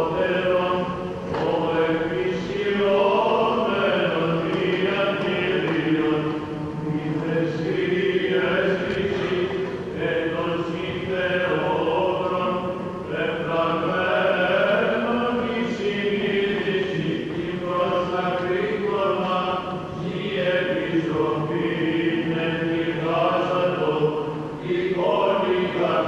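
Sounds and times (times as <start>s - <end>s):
held low vocal drone: 0.0s - 26.0s
unaccompanied liturgical chant: 0.0s - 26.0s.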